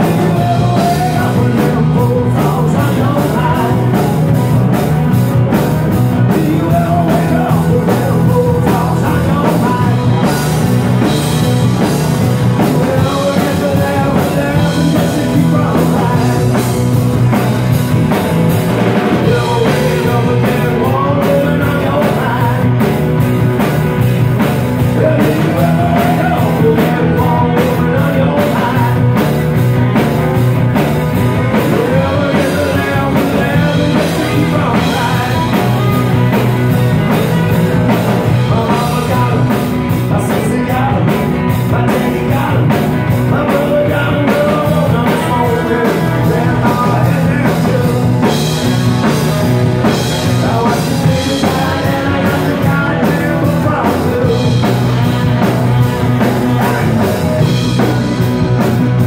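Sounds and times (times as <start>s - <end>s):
drum kit beat: 0.0s - 59.0s
electric bass guitar: 0.0s - 59.0s.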